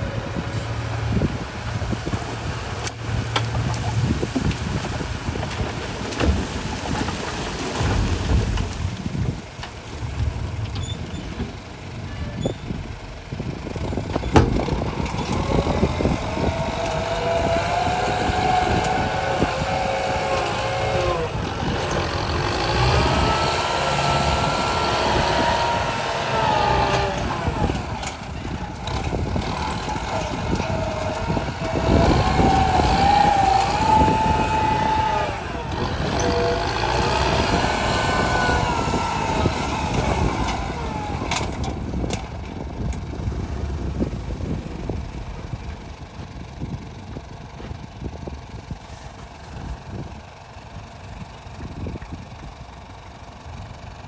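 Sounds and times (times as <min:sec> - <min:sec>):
truck engine revving: 0:00.0 - 0:50.5.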